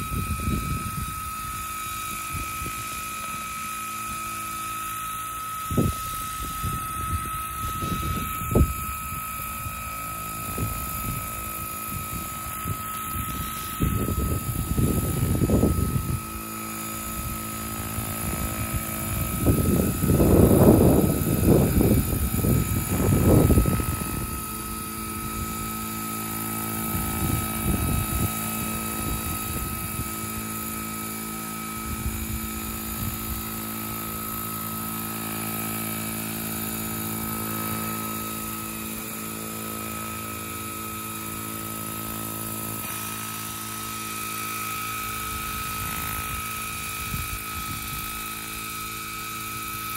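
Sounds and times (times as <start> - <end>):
model helicopter rotors whining: 0.0 - 49.9.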